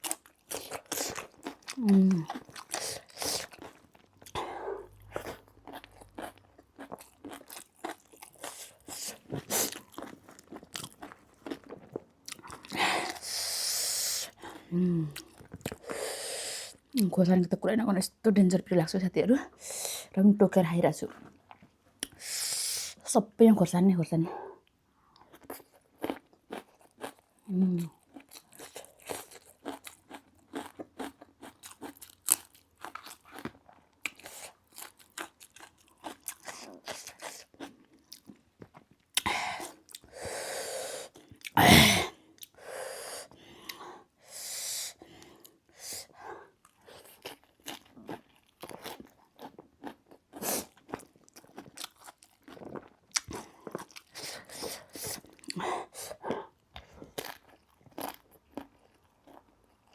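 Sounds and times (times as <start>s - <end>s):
person crunching and chewing food: 0.0s - 17.0s, 25.1s - 40.3s, 41.0s - 42.6s, 45.1s - 59.9s.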